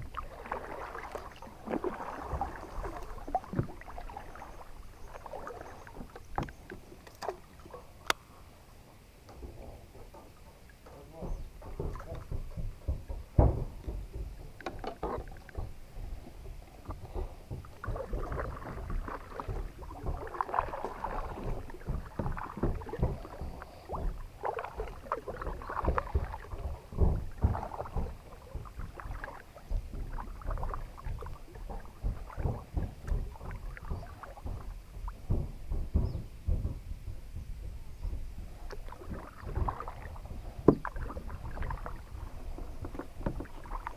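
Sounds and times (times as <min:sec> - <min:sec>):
light knocks and thumps: 0:00.0 - 0:08.2, 0:09.2 - 0:43.9
paddle splashes: 0:00.0 - 0:43.9.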